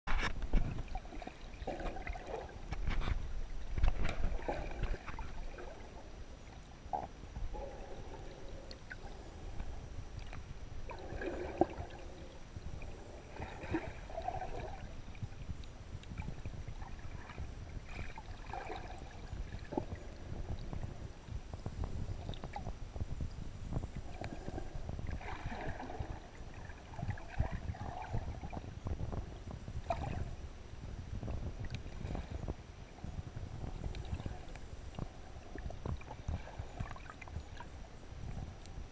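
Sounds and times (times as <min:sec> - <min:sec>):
underwater rumbling water movement: 0:00.1 - 0:38.9.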